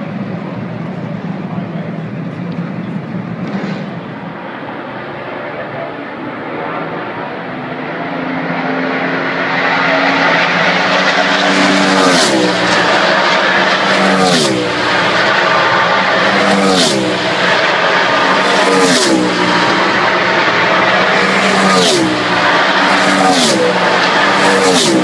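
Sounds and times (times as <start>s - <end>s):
race car engines: 0.0s - 25.0s
race cars passing by: 0.0s - 25.0s.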